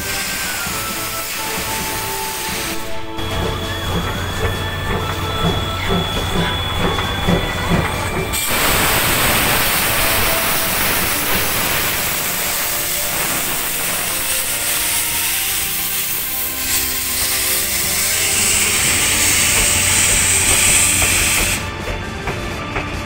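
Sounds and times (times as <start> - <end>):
steam hissing: 0.0 - 23.0
steam locomotive exhaust chuffing: 0.0 - 23.0
train wheels clicking: 0.0 - 23.0.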